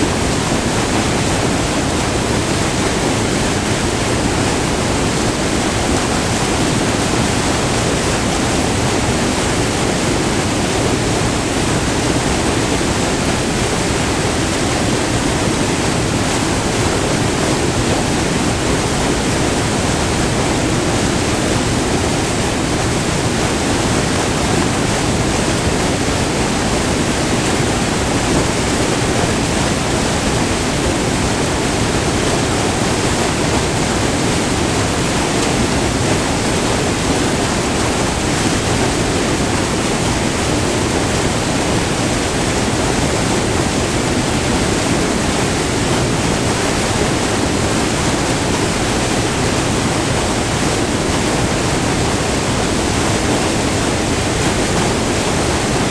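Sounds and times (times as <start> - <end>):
waterfall rushing over rock: 0.0 - 55.9.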